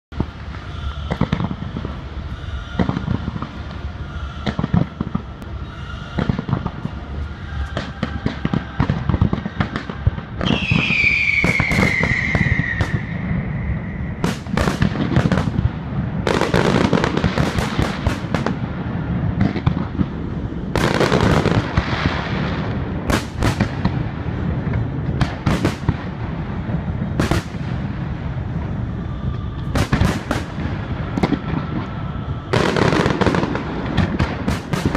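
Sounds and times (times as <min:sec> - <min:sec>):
fireworks bangs and crackling: 0:00.1 - 0:34.9
whistling firework: 0:00.2 - 0:34.9.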